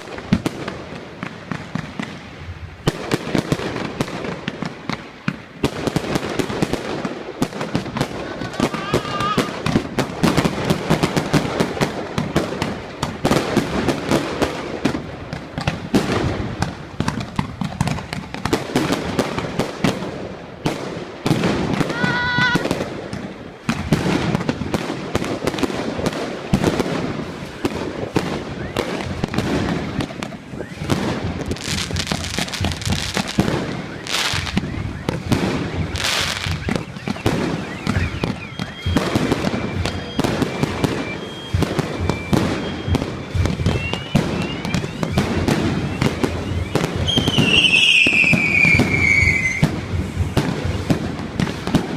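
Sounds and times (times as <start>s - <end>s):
fireworks crackling: 0.0s - 51.9s.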